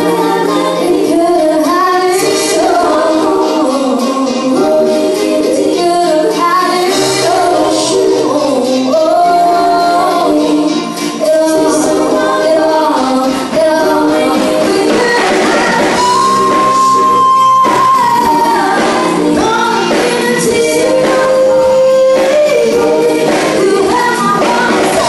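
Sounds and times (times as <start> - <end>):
bass guitar: 0.0 - 25.0
electric guitar: 0.0 - 25.0
women singing: 0.0 - 25.0.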